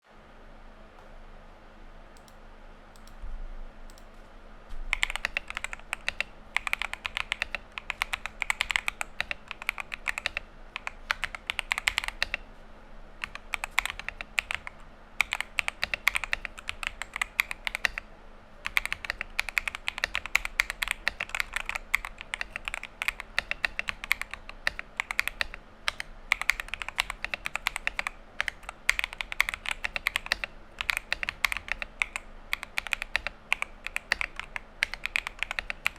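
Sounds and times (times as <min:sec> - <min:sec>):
mechanical keyboard typing: 0:04.9 - 0:12.4, 0:13.2 - 0:18.0, 0:18.6 - 0:35.9.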